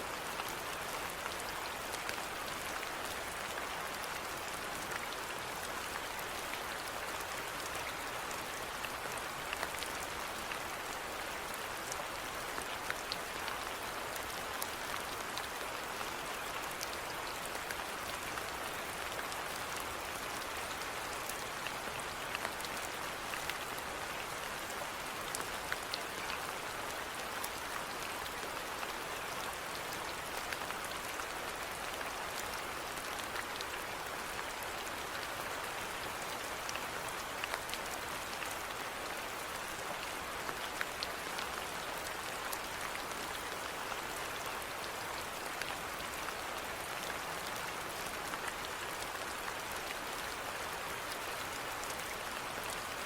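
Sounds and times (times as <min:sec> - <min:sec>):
rain drops pattering: 0:00.0 - 0:53.0.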